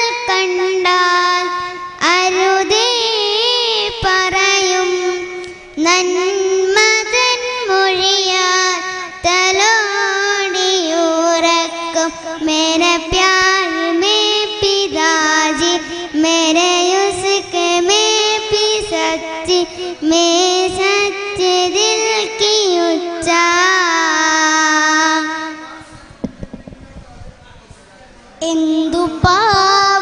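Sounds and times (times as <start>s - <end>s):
girl singing into a microphone: 0.0s - 26.2s, 28.4s - 30.0s.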